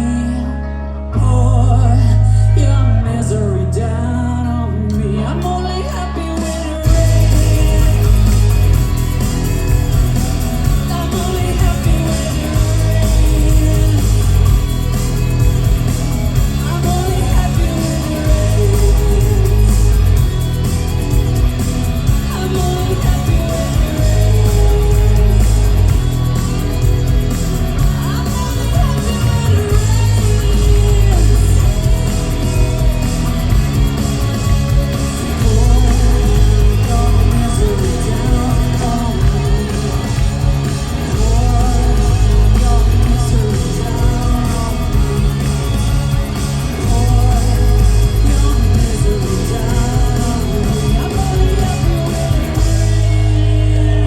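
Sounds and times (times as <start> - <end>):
woman singing: 0.0 - 20.6, 21.4 - 54.0
live rock band playing: 0.0 - 54.0.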